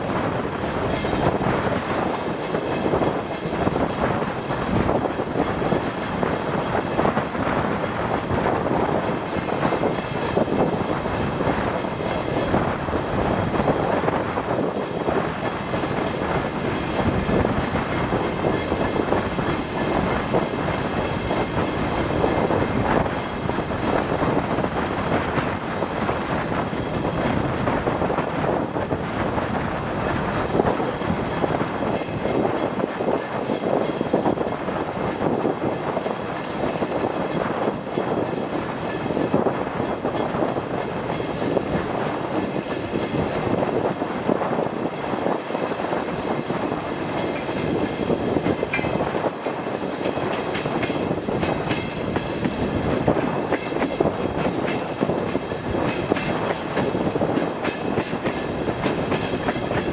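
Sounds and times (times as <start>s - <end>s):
train engine and wheel noise: 0.0s - 59.9s.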